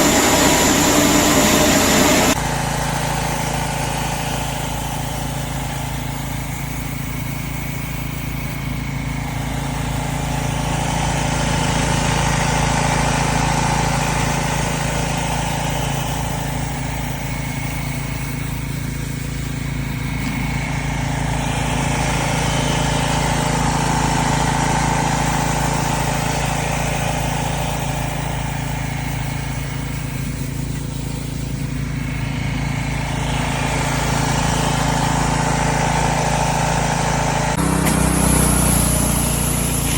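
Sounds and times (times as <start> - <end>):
small gas engine running: 0.0 - 39.9.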